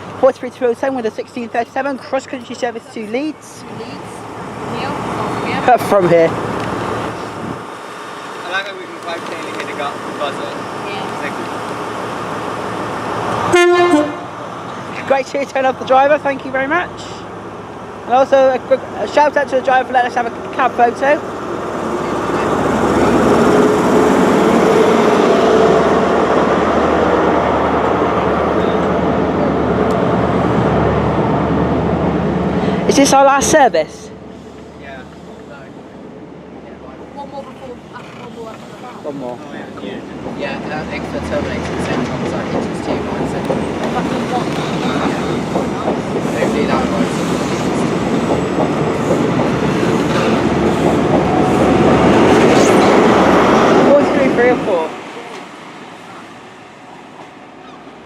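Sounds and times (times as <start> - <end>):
diesel train engine drone: 0.0 - 58.0.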